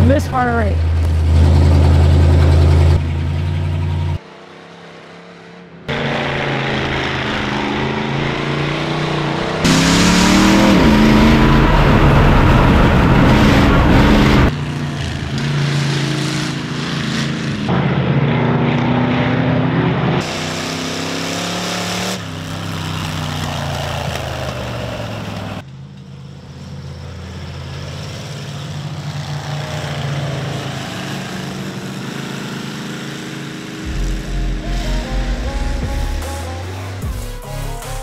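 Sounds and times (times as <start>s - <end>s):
truck engines revving: 0.0s - 38.0s.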